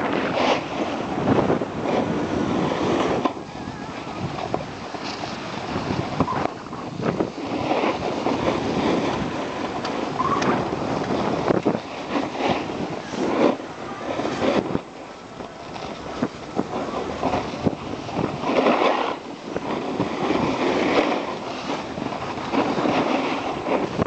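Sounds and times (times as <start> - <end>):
snowboards sliding on snow: 0.0 - 24.0
wind buffeting microphone: 0.0 - 24.0.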